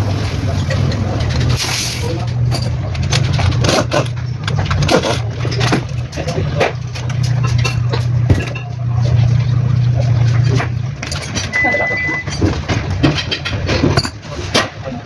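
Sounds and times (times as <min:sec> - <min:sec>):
low engine drone: 0:00.0 - 0:15.0
knocks and clanks: 0:00.6 - 0:15.0.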